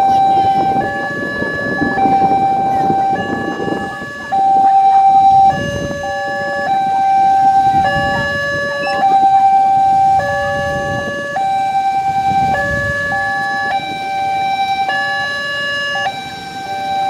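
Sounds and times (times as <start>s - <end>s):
idling engines rumbling: 0.0s - 17.0s
two-tone level-crossing alarm: 0.0s - 17.0s.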